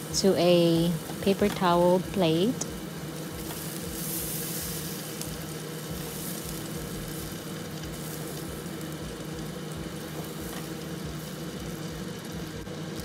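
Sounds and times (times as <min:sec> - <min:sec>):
low steady hum: 0:00.0 - 0:13.0
meat sizzling on grill: 0:00.0 - 0:13.0.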